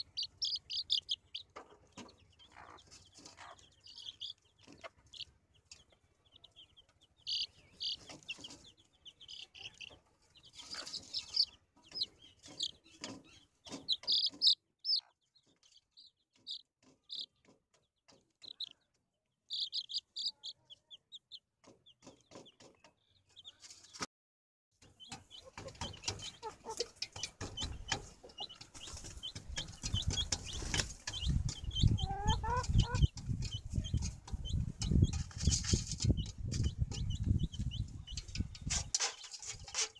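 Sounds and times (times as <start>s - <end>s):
hen clucking: 0.0s - 15.6s, 19.5s - 23.8s, 24.8s - 39.9s
chicks peeping: 0.0s - 24.1s, 24.8s - 39.9s.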